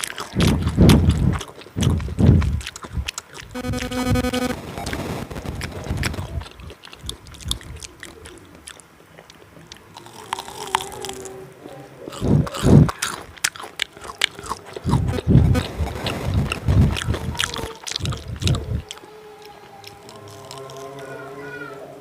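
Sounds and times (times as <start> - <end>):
wet mouth clicks: 0.0 - 11.3, 12.1 - 21.1
close-miked chewing: 0.0 - 21.8.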